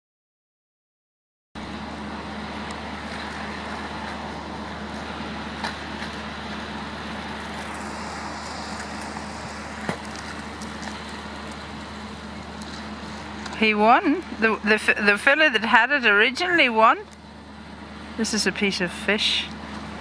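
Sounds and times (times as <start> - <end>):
low motor hum: 1.6 - 20.0.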